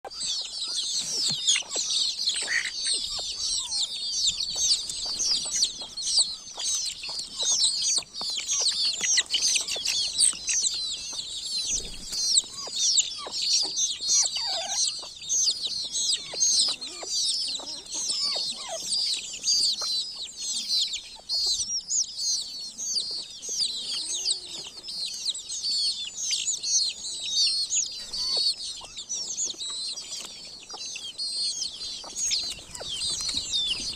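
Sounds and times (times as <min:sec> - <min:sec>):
baby chicks peeping: 0:00.0 - 0:33.9.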